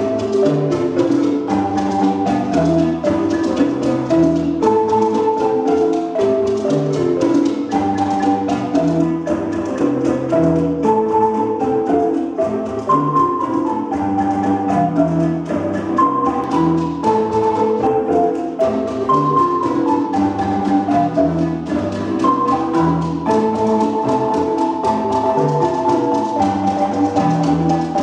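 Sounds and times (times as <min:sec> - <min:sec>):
marimba ensemble playing: 0:00.0 - 0:28.0.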